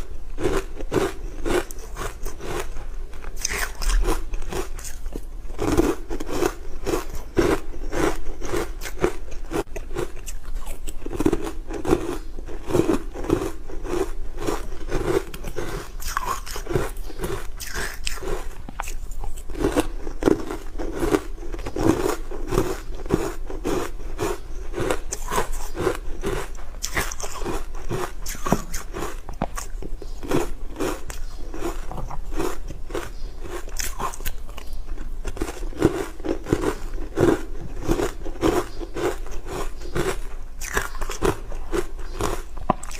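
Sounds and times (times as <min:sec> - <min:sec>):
chewing frozen ice crunches: 0:00.0 - 0:42.9.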